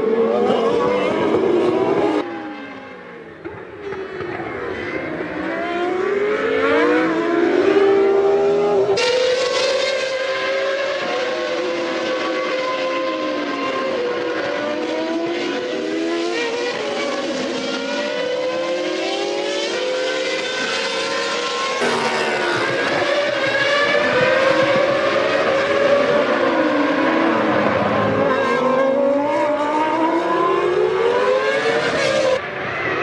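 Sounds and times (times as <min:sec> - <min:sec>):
race car engines high-pitched: 0:00.0 - 0:33.0.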